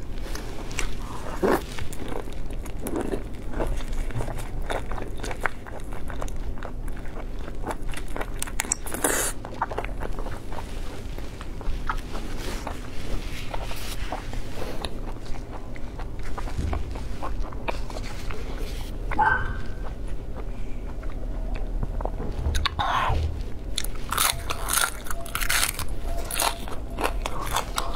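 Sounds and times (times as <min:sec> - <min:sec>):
chewing and sucking: 0:00.1 - 0:27.9.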